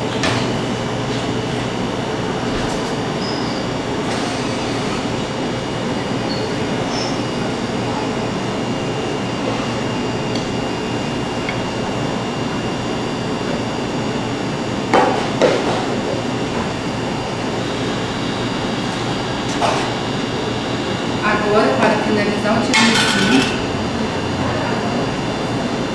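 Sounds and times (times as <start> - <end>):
machine-like background noise: 0.0 - 25.9.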